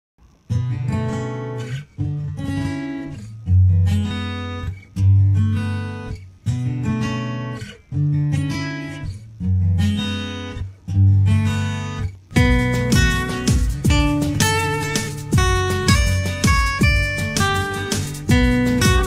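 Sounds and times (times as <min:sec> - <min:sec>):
strummed guitar chords: 0:00.2 - 0:19.0.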